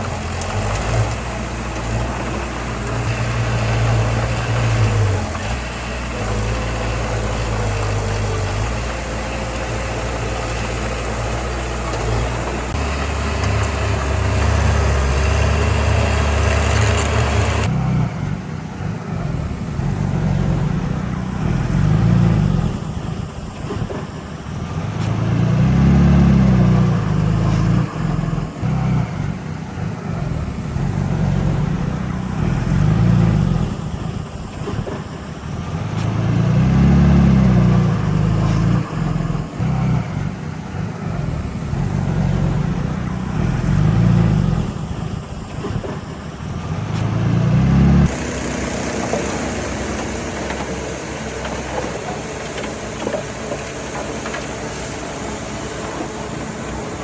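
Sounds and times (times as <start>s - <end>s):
heavy machine diesel engine: 0.0s - 57.0s
hissy machine noise: 0.0s - 57.0s.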